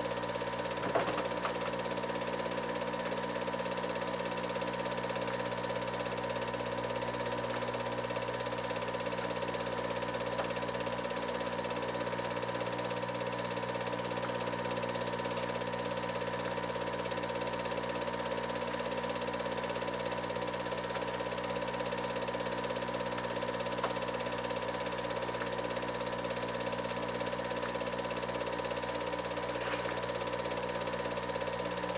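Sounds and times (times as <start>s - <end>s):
film projector whirring: 0.0s - 31.9s.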